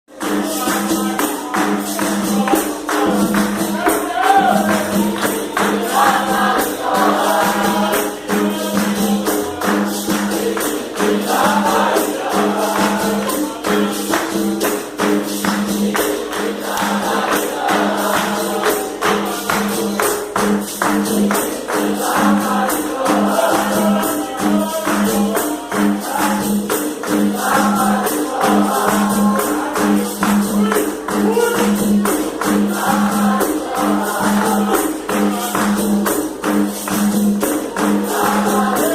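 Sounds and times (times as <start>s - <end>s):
jingling tambourine: 0.1s - 38.9s
voices singing: 0.2s - 20.5s, 21.3s - 36.3s, 37.4s - 38.9s.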